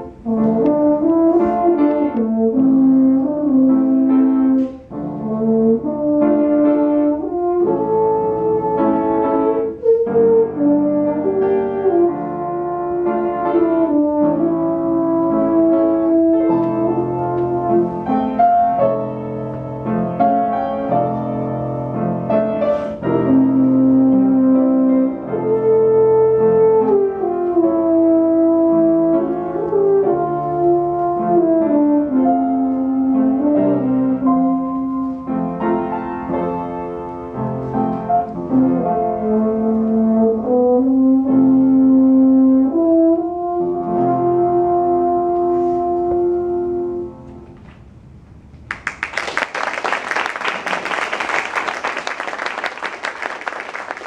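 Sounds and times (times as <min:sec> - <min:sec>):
french horn melody: 0:00.0 - 0:47.6
piano accompaniment: 0:00.0 - 0:54.0.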